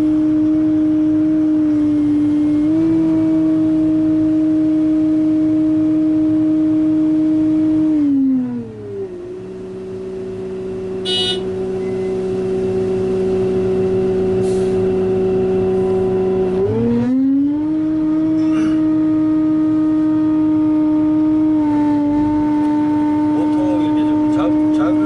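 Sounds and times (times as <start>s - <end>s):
excavator engine droning: 0.0s - 25.0s.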